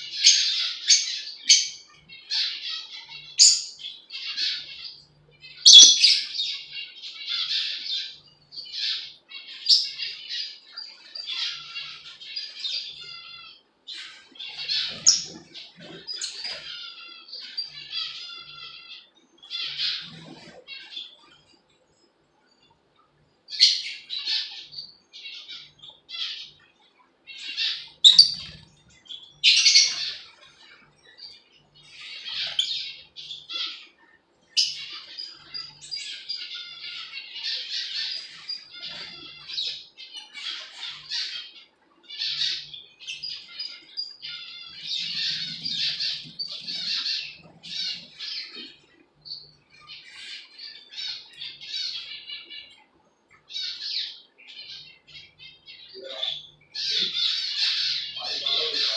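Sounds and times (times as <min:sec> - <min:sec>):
lovebirds squawking and chirping: 0:00.0 - 0:58.9.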